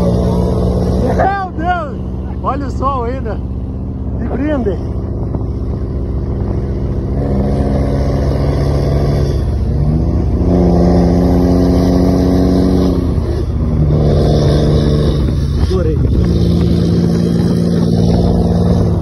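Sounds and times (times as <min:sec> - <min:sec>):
truck diesel engine under load: 0:00.0 - 0:19.0
wind and road rumble: 0:00.0 - 0:19.0.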